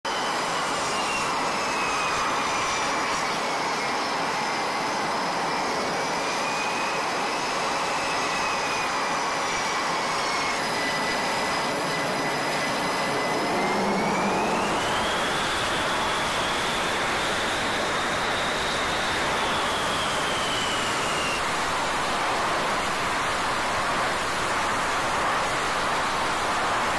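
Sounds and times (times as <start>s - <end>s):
jet engines with turbine whine: 0.0s - 26.9s.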